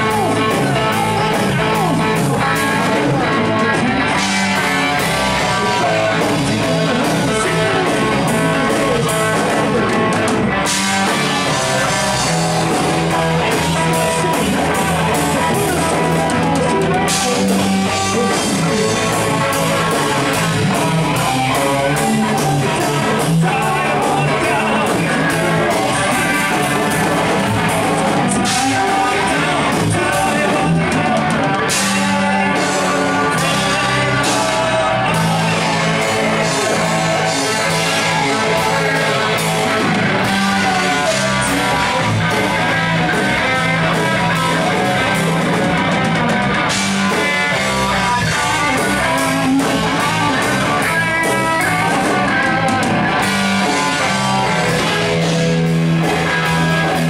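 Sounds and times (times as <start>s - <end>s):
bass guitar: 0.0s - 57.0s
distorted electric guitar: 0.0s - 57.0s
drums and cymbals: 0.0s - 57.0s.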